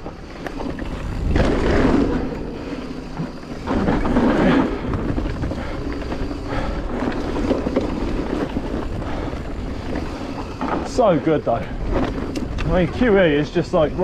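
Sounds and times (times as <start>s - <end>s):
bike tyres rolling on dirt trail: 0.0s - 14.0s
wind rushing over microphone: 0.0s - 14.0s.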